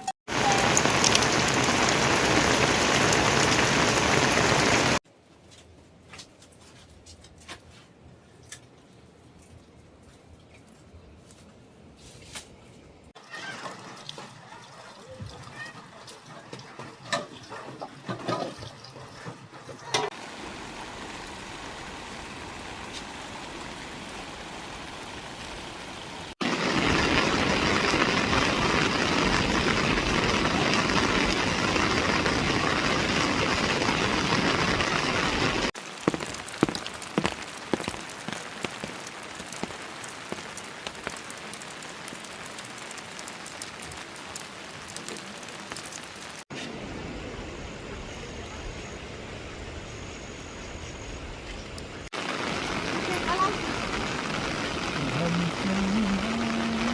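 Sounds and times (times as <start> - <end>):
steady rain falling: 0.0 - 5.0, 13.1 - 17.9, 20.0 - 56.9.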